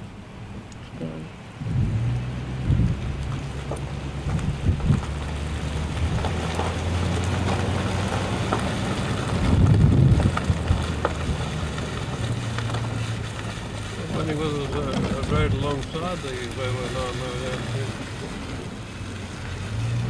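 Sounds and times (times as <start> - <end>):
car engine hum: 0.0 - 20.0
wind through open window: 0.0 - 20.0
tyre noise: 1.6 - 20.0.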